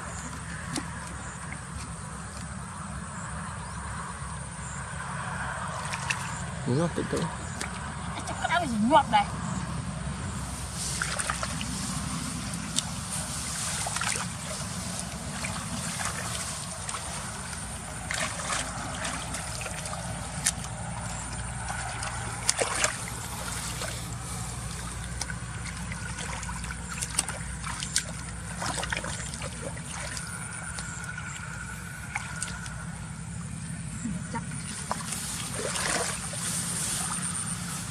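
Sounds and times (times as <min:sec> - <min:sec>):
water splashing and trickling: 0:00.0 - 0:03.1, 0:04.6 - 0:09.2, 0:10.3 - 0:37.9
steady low rumble: 0:00.0 - 0:37.9.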